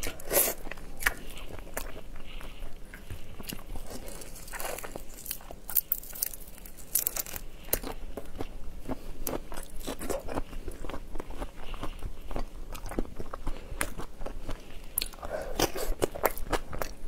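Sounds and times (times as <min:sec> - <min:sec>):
crunching and chewing shrimp: 0:00.0 - 0:17.0.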